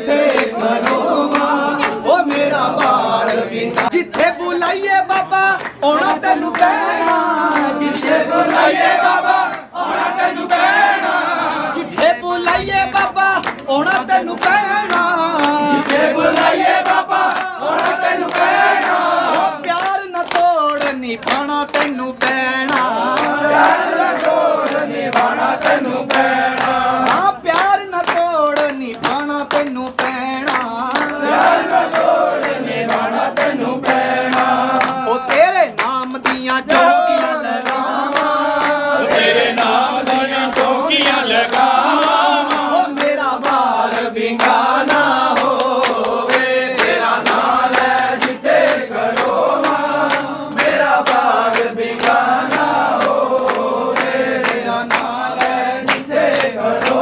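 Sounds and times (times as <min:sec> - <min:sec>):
group singing devotional song: 0:00.0 - 0:57.0.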